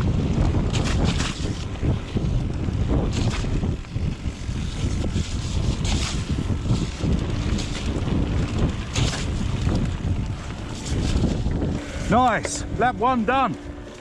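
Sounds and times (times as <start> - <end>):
bike tyres rolling on trail: 0.0 - 14.0
wind buffeting microphone: 0.0 - 14.0.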